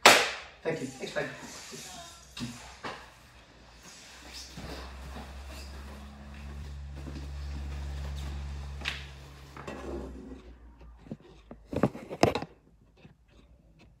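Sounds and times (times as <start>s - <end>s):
low steady hum: 0.5s - 12.9s.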